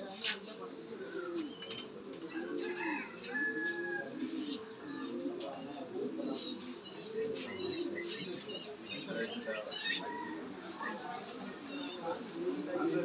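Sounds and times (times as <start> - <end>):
pigeons cooing: 0.2 - 13.0.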